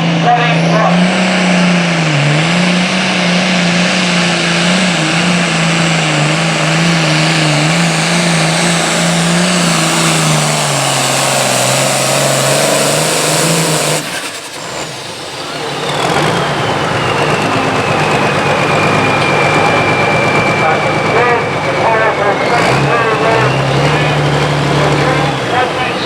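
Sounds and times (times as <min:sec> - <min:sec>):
tractor diesel engine running hard: 0:00.0 - 0:26.0.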